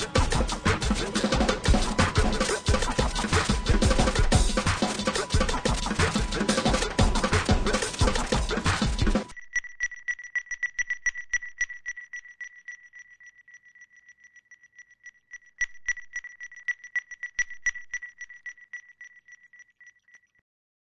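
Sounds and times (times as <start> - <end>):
rapid high electronic beeping: 0.0 - 20.3.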